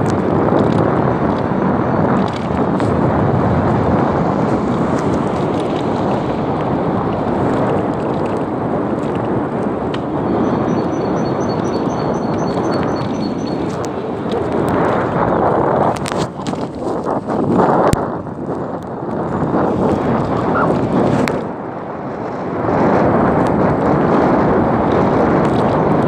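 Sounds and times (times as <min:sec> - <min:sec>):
bicycle road noise: 0:00.0 - 0:26.0
wind rushing on microphone: 0:00.0 - 0:26.0.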